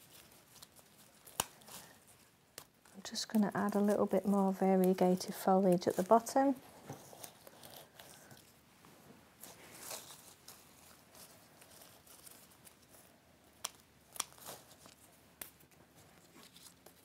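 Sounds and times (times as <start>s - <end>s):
foliage rustling and crinkling: 0.0s - 17.0s.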